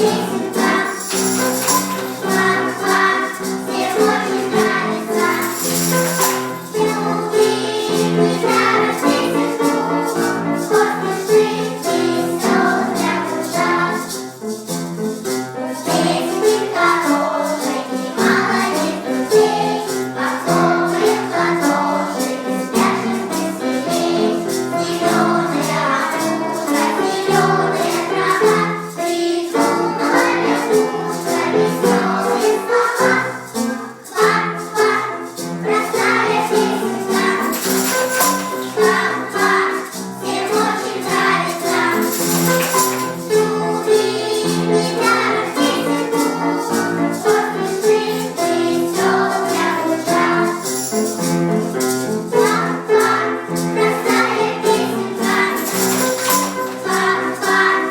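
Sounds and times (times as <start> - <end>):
rhythmic percussion beat: 0.0 - 7.6, 8.2 - 57.9
children's choir singing: 0.0 - 57.9.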